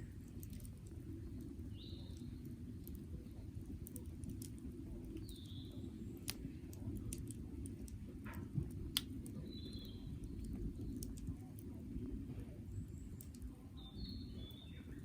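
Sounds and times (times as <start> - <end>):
sharp fire pops: 0.0 - 12.4
campfire crackling: 0.0 - 15.0
low steady rumble: 0.0 - 15.0.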